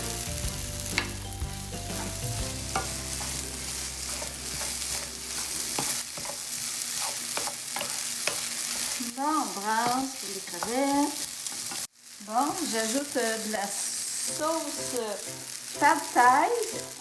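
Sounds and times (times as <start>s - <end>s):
noodles and shrimp sizzling in a pan: 0.0s - 17.0s.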